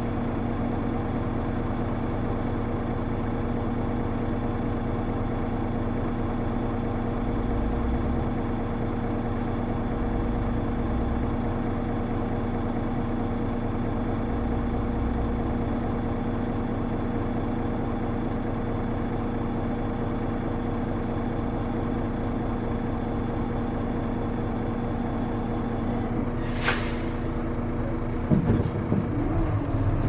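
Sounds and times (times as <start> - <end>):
bus engine humming: 0.0 - 30.0.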